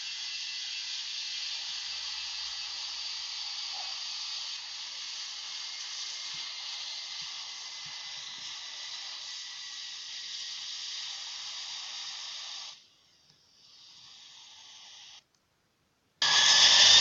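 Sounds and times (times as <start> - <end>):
hissing jet engine noise: 0.0 - 15.2, 16.2 - 17.0.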